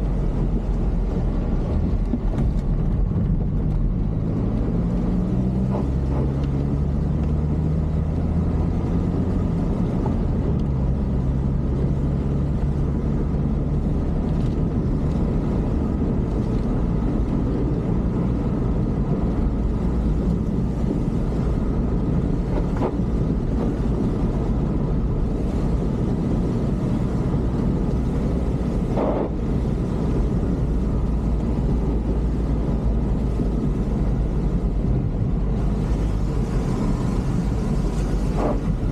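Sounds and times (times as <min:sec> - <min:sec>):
road noise: 0:00.0 - 0:38.9.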